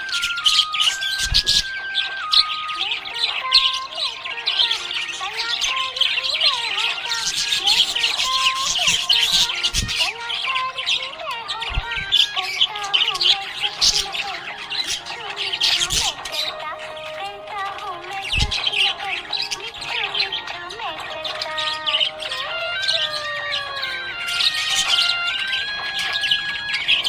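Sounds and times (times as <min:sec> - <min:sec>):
background music: 0:00.0 - 0:27.0
budgerigar squawks: 0:00.0 - 0:27.0
budgerigars chirping and warbling: 0:00.0 - 0:27.0.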